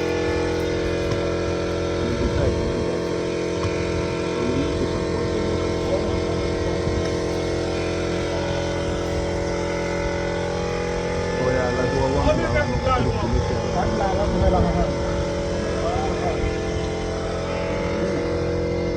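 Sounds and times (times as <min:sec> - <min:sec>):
engine running steadily: 0:00.0 - 0:18.9.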